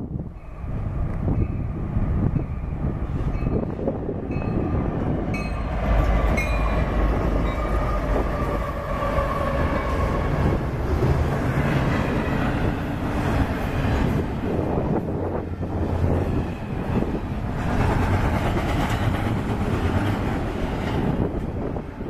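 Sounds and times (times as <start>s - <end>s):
locomotives rumbling past: 0.0s - 22.0s
rail cars rolling on rails: 0.0s - 22.0s.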